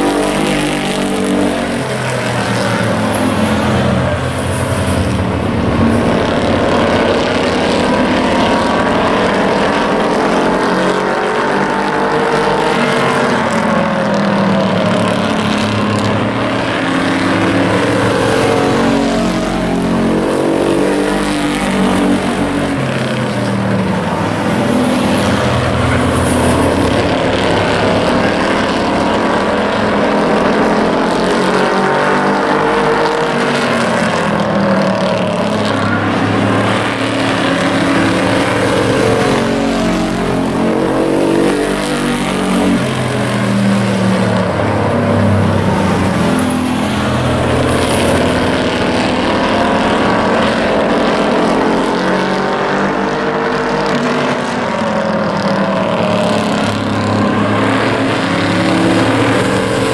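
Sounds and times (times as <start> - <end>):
racing truck engines: 0.0 - 59.9.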